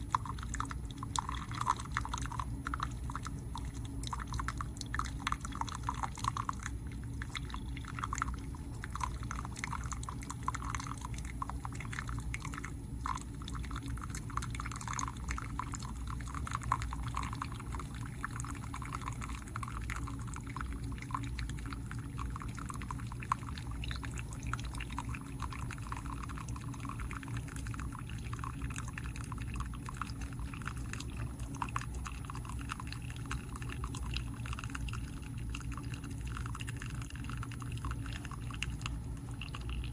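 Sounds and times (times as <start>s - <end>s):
coffee maker humming: 0.0s - 39.9s
liquid pouring and trickling: 0.0s - 39.9s.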